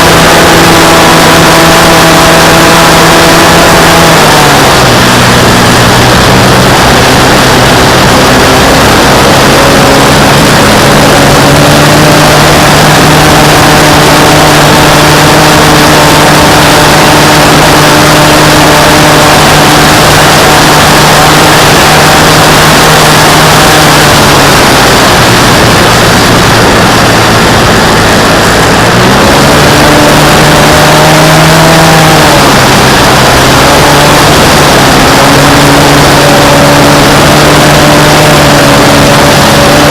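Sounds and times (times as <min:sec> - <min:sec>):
air rushing: 0:00.0 - 0:39.9
model airplane motor and propeller: 0:00.0 - 0:39.9.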